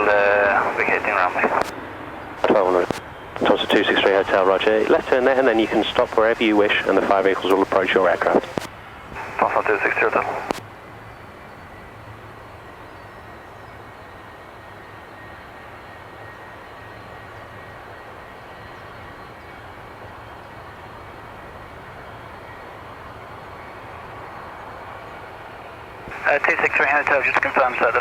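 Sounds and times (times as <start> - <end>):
distant jet engine rumble: 0.0 - 28.0.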